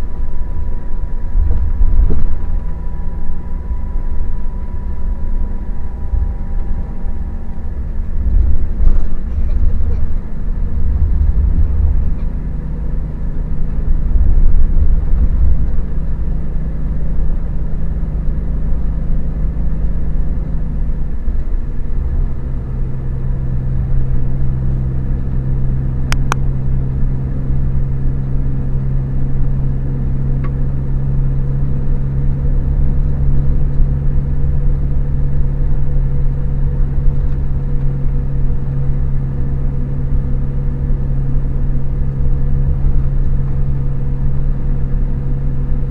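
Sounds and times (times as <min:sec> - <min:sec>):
diesel engine humming: 0:00.0 - 0:45.9.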